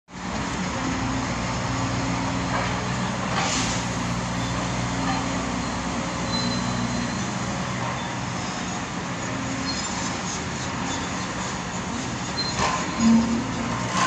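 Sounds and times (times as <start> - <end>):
excavator engine droning: 0.1 - 14.0
traffic noise: 0.1 - 14.0
machinery rumble: 0.2 - 14.0.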